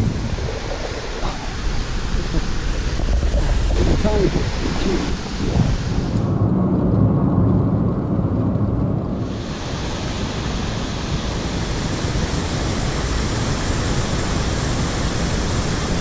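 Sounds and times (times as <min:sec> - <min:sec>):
rushing stream water: 0:00.0 - 0:06.3, 0:09.2 - 0:16.0.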